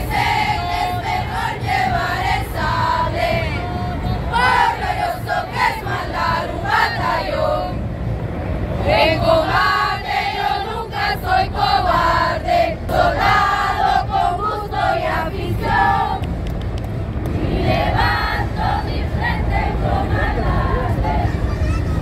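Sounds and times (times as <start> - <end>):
crowd and street rumble: 0.0 - 22.0.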